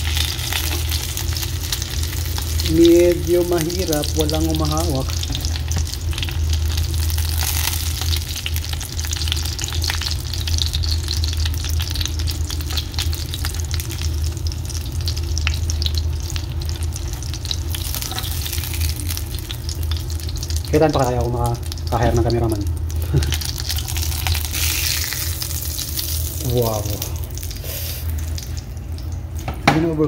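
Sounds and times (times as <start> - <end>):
food sizzling in hot oil: 0.0 - 29.7
steady low hum: 0.0 - 30.0.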